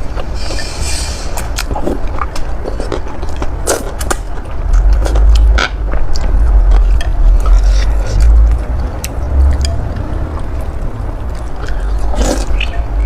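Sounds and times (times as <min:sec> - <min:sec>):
person chewing noodles: 0:00.0 - 0:12.7
heavy low rumble: 0:00.0 - 0:13.0
wet mouth clicks: 0:01.2 - 0:10.6, 0:11.3 - 0:12.8.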